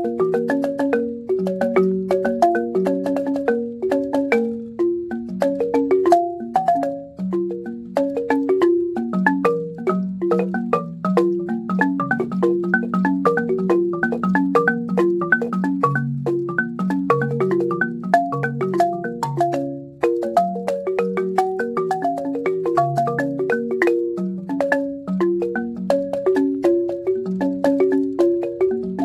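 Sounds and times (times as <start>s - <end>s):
wooden xylophone played with mallets: 0.0s - 29.0s.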